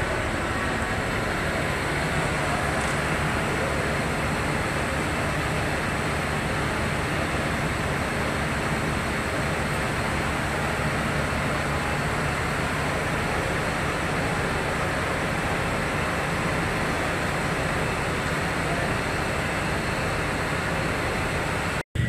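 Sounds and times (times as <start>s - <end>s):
fire engine idling: 0.0s - 22.0s.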